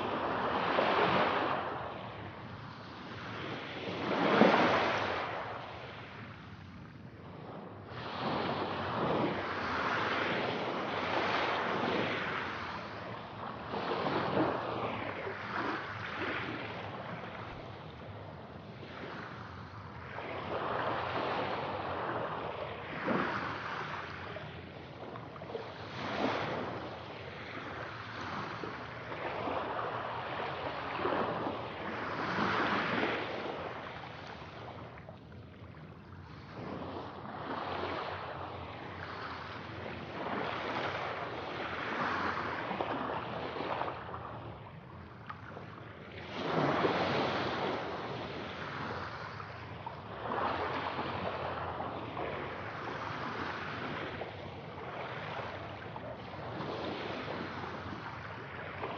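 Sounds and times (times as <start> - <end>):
sea waves washing onto shore: 7.5 - 58.9.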